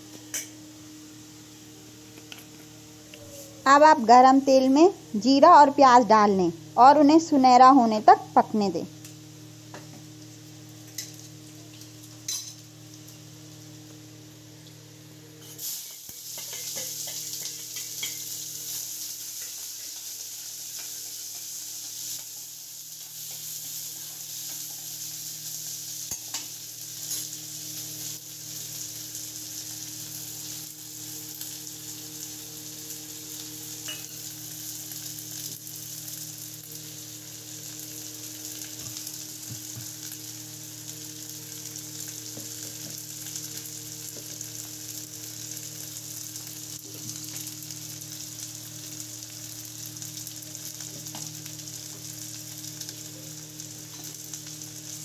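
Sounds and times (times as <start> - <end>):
onions sizzling in hot oil: 0.0 - 55.0.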